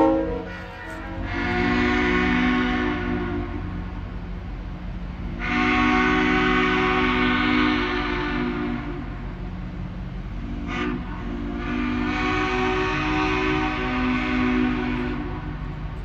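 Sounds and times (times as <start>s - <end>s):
train air horn blasts: 0.0s - 4.3s, 5.3s - 9.6s, 10.2s - 16.0s
low engine rumble: 0.0s - 16.0s.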